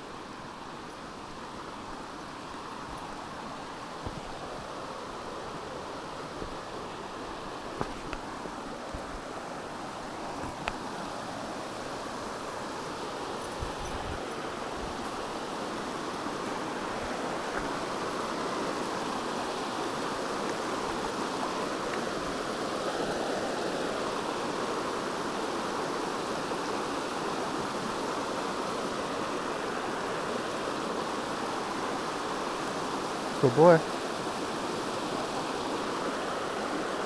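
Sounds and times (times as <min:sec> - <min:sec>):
brook rushing over rocks: 0:01.2 - 0:37.0.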